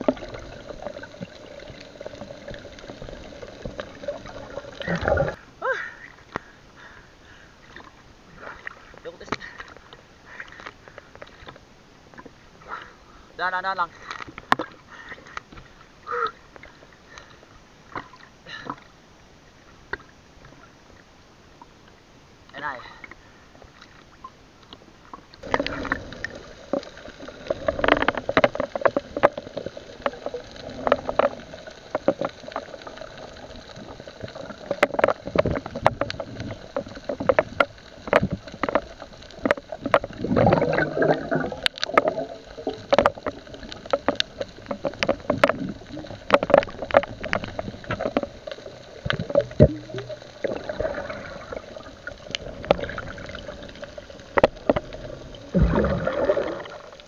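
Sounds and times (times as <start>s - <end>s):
water sloshing and gurgling: 0.0s - 57.0s.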